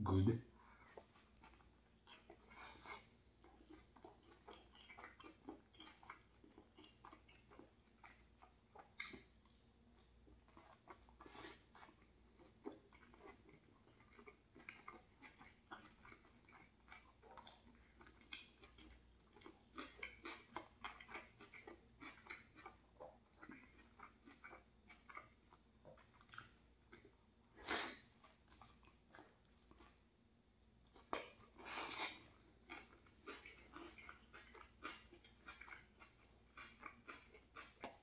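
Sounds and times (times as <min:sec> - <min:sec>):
close-mouthed chewing: 0:00.4 - 0:38.0.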